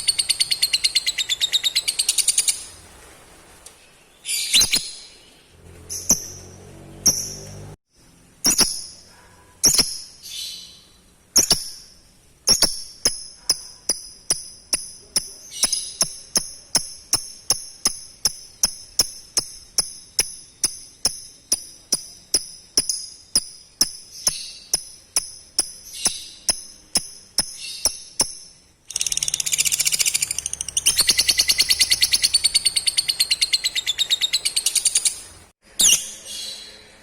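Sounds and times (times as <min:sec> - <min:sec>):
high-pitched bird chirps: 0:00.0 - 0:02.7, 0:04.2 - 0:05.3, 0:05.9 - 0:07.5, 0:08.4 - 0:11.9, 0:12.5 - 0:36.8.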